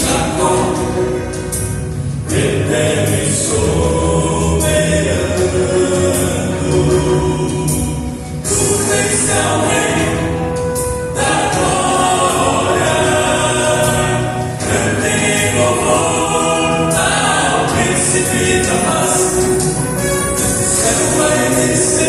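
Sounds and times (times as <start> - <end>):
vocal quartet singing hymn: 0.0 - 22.0.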